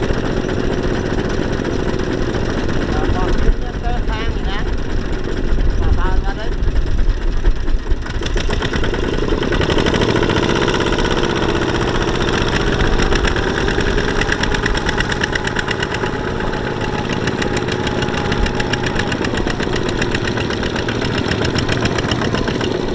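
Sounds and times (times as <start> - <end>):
diesel engines chugging: 0.0 - 22.9.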